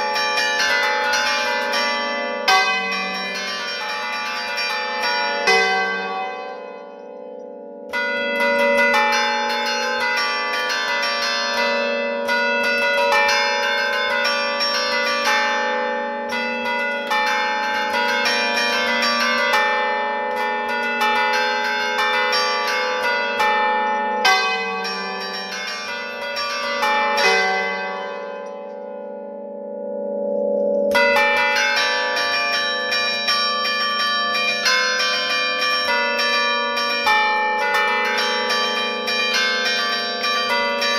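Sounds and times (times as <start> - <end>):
church bells playing a tune: 0.0 - 40.9.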